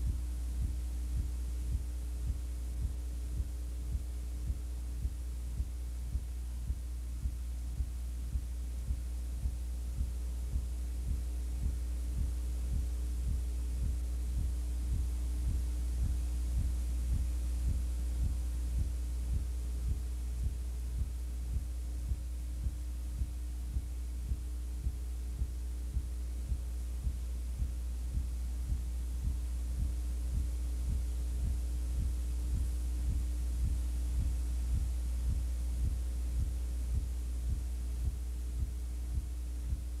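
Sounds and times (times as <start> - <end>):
electrical hum with low pulsing: 0.0 - 40.0.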